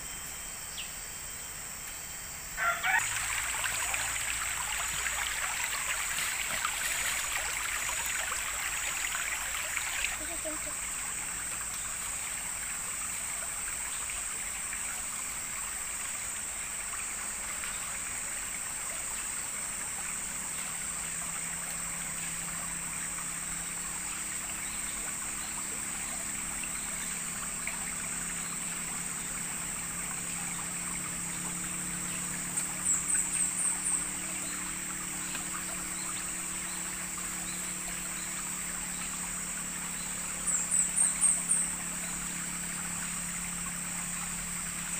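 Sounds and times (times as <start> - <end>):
river water flowing: 2.6 - 44.9.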